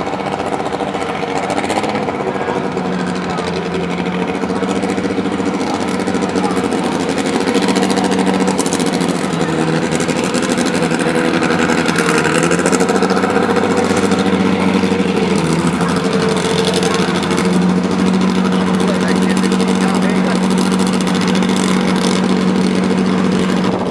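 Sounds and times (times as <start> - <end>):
car engine running at low revs: 0.0 - 23.9.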